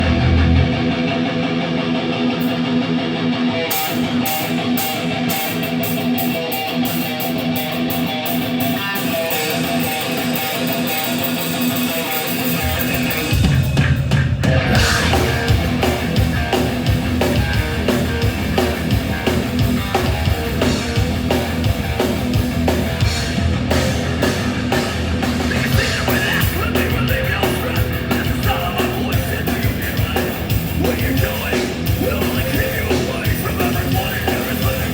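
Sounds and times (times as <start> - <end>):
electric guitar: 0.0 - 34.9
heavy metal band playing: 0.0 - 34.9.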